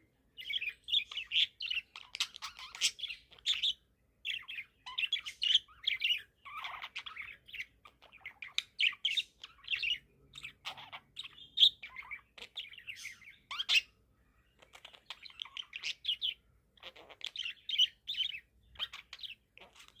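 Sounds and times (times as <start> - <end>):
budgerigar chirping and chattering: 0.4 - 20.0.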